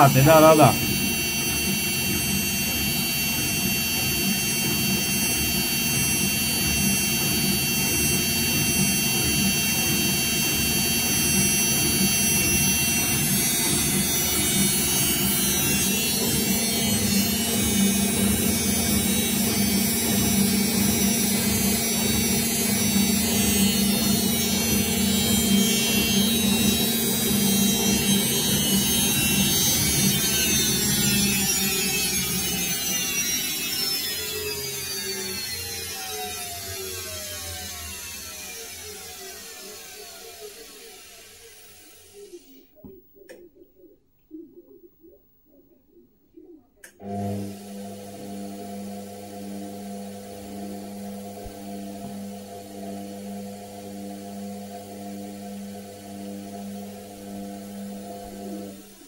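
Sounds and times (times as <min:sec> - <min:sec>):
washing machine spinning: 0:00.0 - 0:42.2, 0:47.0 - 0:59.0
motor whine: 0:00.0 - 0:42.8, 0:47.0 - 0:59.0.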